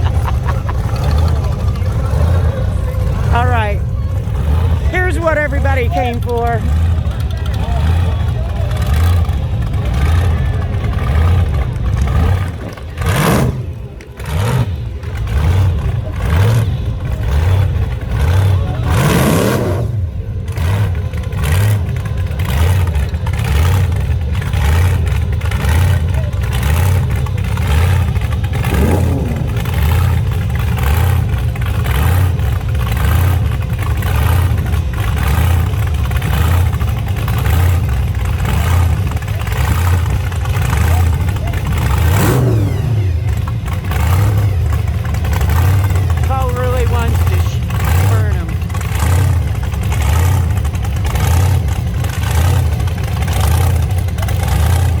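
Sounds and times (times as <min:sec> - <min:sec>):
engines deep pulsing rumble: 0:00.0 - 0:55.0.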